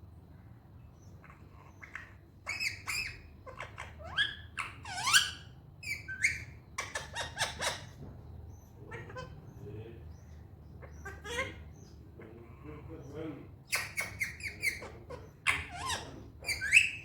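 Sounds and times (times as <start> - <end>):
parrot squawking and calling: 1.0 - 8.0, 8.6 - 9.6, 10.6 - 17.0.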